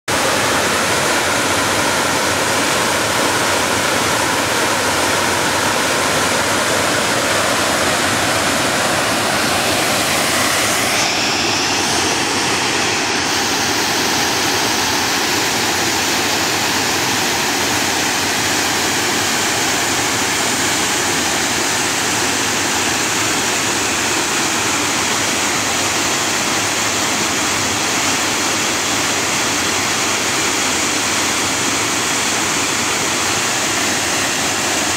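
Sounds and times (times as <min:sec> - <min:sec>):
water rushing over a spillway: 0:00.1 - 0:34.9.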